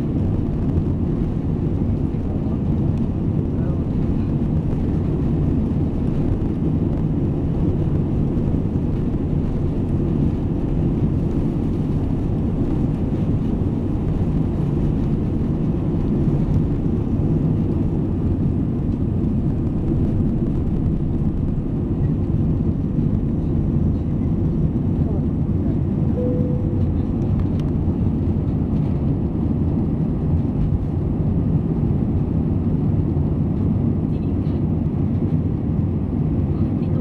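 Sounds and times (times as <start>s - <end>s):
jet engines rumbling in cabin: 0.0s - 37.0s.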